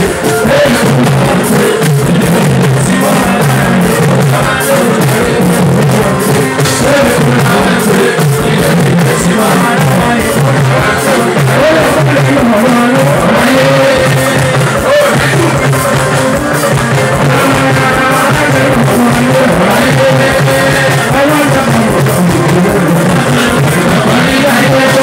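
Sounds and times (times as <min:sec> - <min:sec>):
keyboards: 0:00.0 - 0:25.0
man singing into a microphone: 0:00.0 - 0:25.0
percussion: 0:00.0 - 0:25.0.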